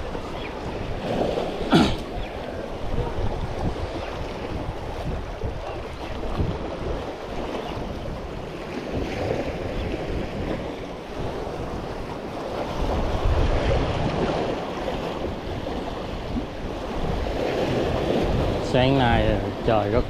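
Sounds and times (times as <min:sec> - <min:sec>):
surf washing against rocks: 0:00.0 - 0:20.0
wind buffeting microphone: 0:00.0 - 0:20.0.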